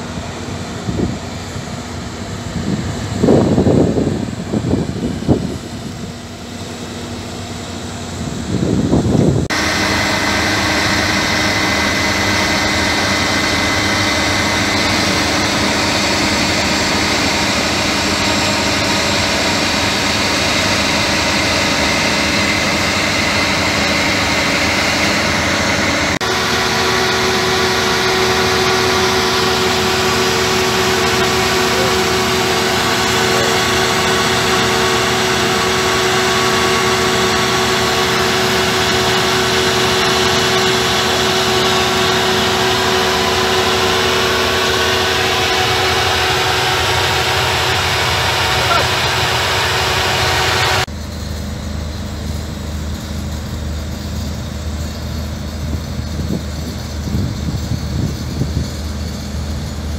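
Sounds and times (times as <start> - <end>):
drilling rig machine drone: 0.0 - 59.9
mid-pitched machine hum: 0.0 - 59.9.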